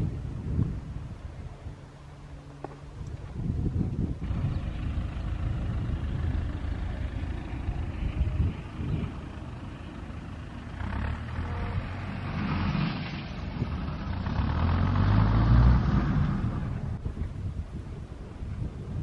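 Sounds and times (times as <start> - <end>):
wind buffeting microphone: 0.0 - 1.9, 2.8 - 12.3, 13.2 - 19.0.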